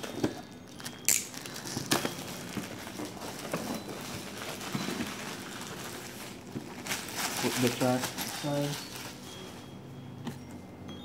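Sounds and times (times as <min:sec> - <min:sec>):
shrink-wrap crinkling and tearing: 0:00.0 - 0:09.6.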